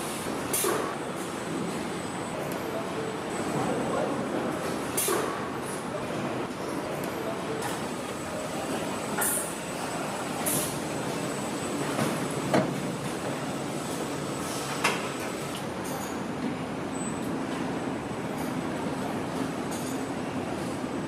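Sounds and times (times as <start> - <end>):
steady mechanical noise: 0.0 - 21.0.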